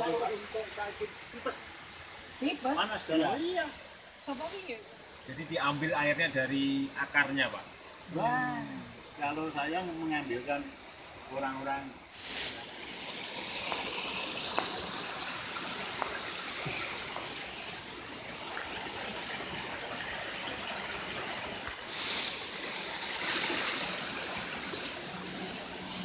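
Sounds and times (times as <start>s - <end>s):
stream and waterfall rushing: 0.0s - 26.0s.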